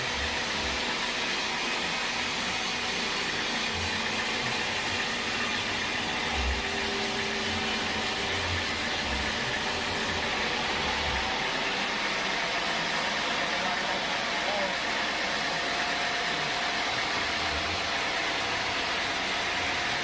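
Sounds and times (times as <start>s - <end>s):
sawmill machinery hissing: 0.0s - 20.0s.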